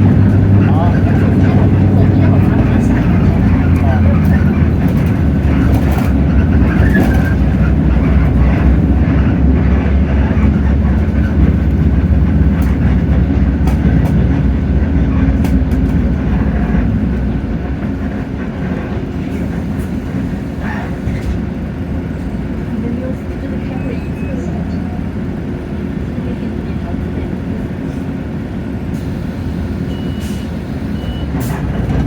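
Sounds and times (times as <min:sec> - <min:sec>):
bus diesel engine droning: 0:00.0 - 0:32.0.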